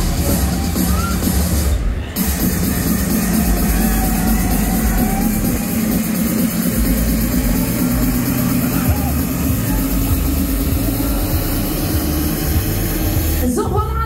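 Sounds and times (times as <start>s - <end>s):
fairground ride machinery rumble: 0.0s - 14.0s
noisy wash: 0.0s - 14.0s.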